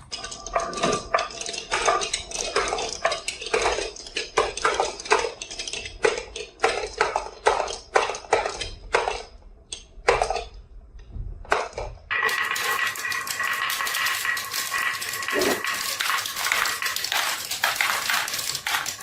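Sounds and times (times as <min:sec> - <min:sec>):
marbles rattling down wooden track: 0:00.0 - 0:08.4, 0:12.1 - 0:19.0.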